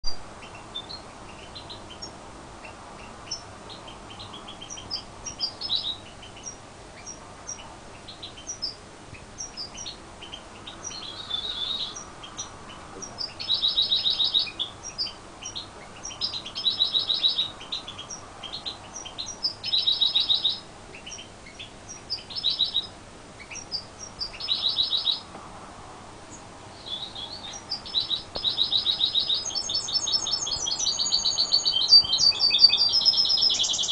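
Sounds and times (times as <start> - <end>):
finch twittering and trilling: 0.4 - 25.3, 26.3 - 33.9.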